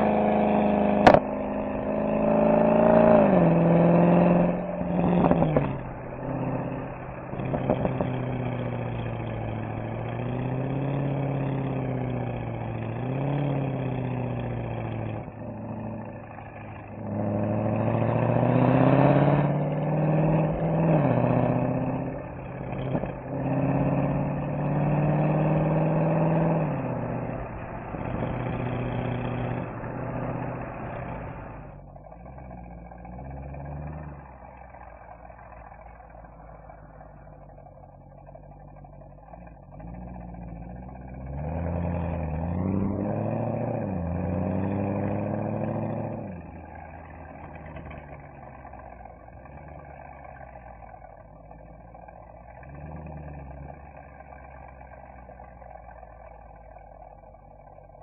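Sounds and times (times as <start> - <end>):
car engine and exhaust revving: 0.0 - 58.0.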